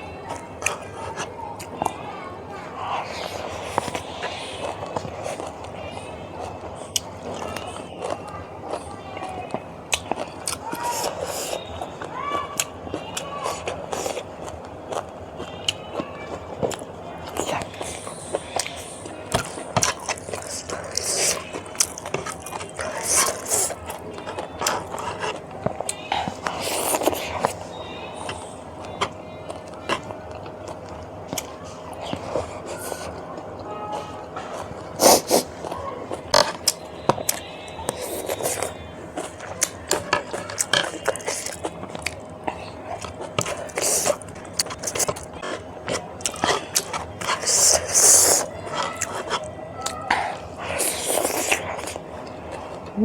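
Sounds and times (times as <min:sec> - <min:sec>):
person chewing food: 0:00.0 - 0:02.0, 0:02.6 - 0:53.0.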